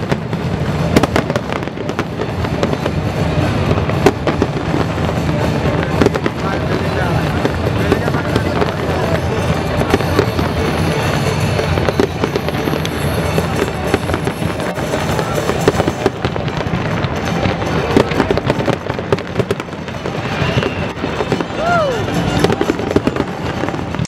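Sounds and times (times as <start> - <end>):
fireworks crackling pops: 0.0 - 24.0.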